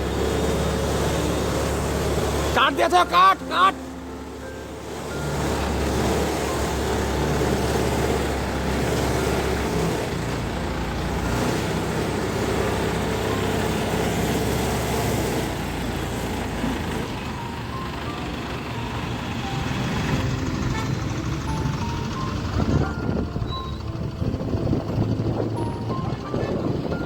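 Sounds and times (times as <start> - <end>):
diesel crane engine running: 0.0 - 27.0.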